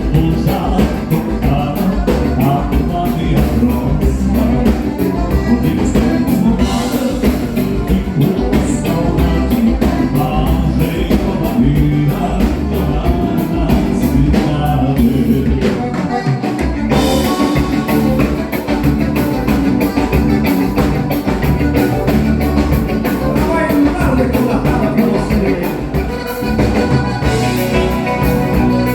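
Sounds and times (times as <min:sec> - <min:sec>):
drum kit: 0:00.0 - 0:28.9
live dance band playing: 0:00.0 - 0:28.9
person singing: 0:00.0 - 0:28.9.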